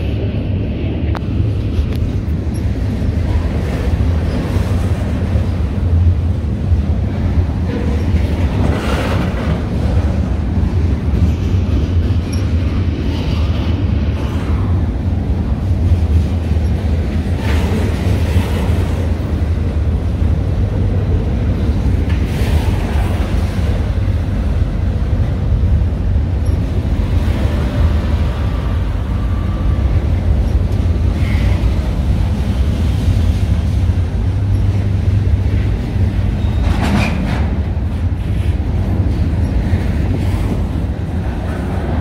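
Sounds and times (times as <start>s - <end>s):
train rumbling past: 0.0s - 42.0s.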